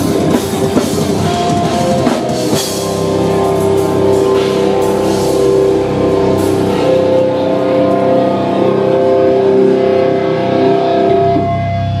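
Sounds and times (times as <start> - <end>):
electric guitars holding a chord: 0.0 - 12.0.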